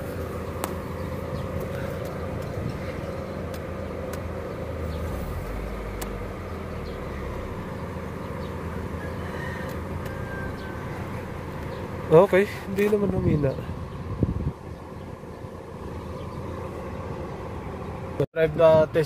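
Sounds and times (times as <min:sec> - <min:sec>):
car engine and road hum: 0:00.0 - 0:19.0.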